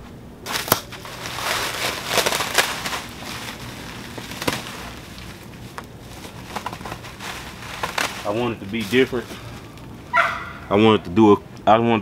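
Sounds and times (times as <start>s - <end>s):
plastic wrapping crinkling: 0.5s - 10.2s.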